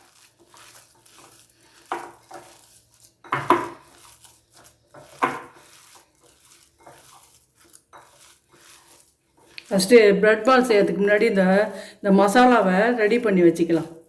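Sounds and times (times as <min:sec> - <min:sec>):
spoon stirring in bowl: 0:00.0 - 0:14.0.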